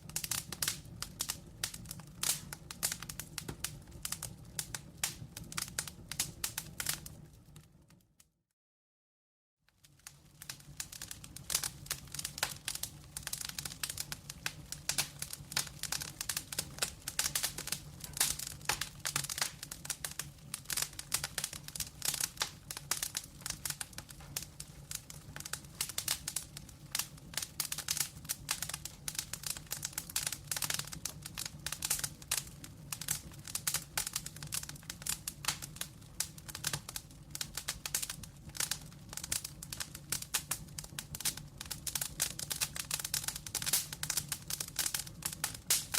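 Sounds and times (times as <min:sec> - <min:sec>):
wood fire crackling and popping: 0:00.0 - 0:08.2, 0:09.8 - 0:45.9.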